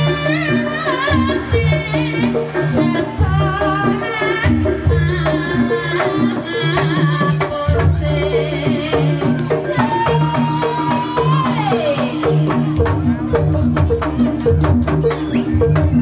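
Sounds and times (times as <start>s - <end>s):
drums: 0.0s - 16.0s.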